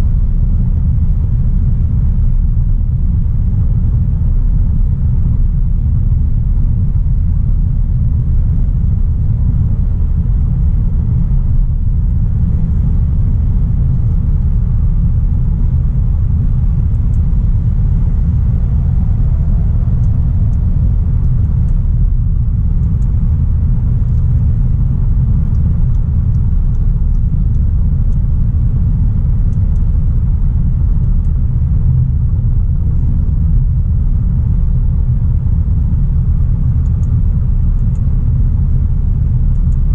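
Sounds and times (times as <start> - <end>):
car driving rumble: 0.0 - 39.9
road and tyre noise: 0.0 - 39.9.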